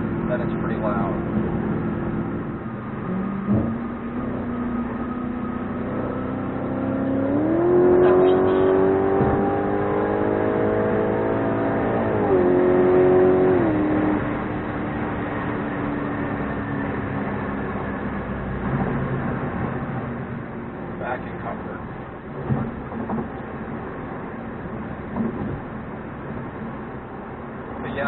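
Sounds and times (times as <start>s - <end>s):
car engine accelerating from inside: 0.0s - 27.0s.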